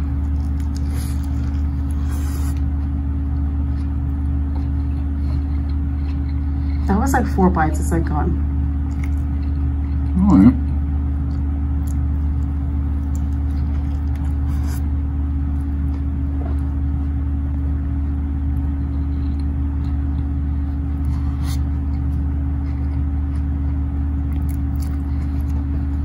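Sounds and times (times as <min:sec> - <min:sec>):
man chewing: 0:00.0 - 0:06.9, 0:08.6 - 0:26.0
low mechanical hum: 0:00.0 - 0:26.0.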